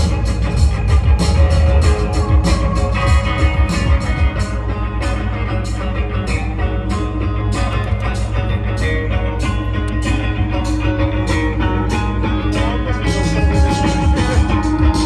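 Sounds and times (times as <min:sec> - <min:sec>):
bass line: 0:00.0 - 0:15.0
drum kit: 0:00.0 - 0:15.0
electric guitar: 0:00.0 - 0:15.0
synthesizer: 0:00.0 - 0:15.0.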